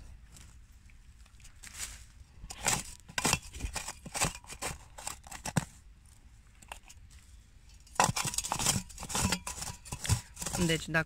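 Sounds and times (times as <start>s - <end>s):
hand trowel scraping earth: 0.0s - 11.0s.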